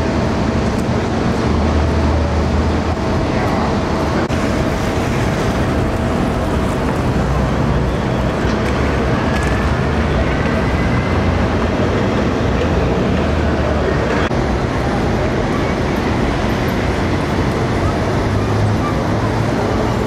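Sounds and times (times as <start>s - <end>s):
traffic engine hum: 0.0s - 20.0s.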